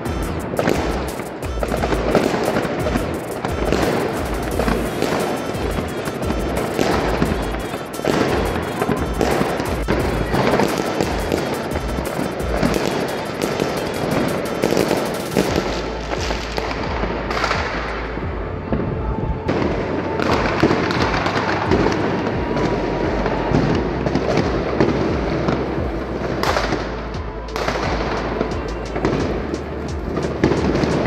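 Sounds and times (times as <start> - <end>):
firecrackers cracking and banging: 0.0 - 18.2, 18.8 - 31.0.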